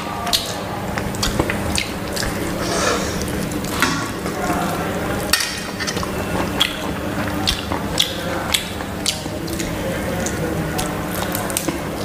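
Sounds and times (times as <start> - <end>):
chewing: 0.0 - 12.0
food squished by hand: 0.3 - 12.0.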